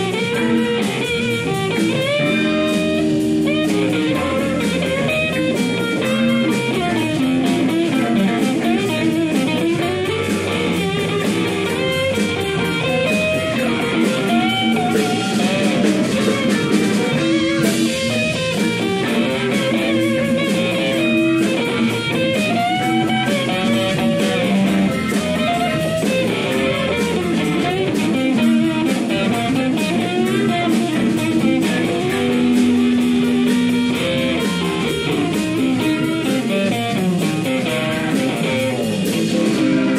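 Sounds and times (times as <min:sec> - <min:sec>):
blues band playing: 0:00.0 - 0:39.9
electric guitar lead with bent notes: 0:00.0 - 0:39.9.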